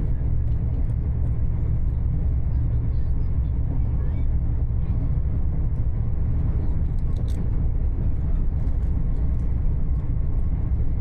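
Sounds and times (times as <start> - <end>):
passenger train rumbling on rails: 0.0 - 11.0.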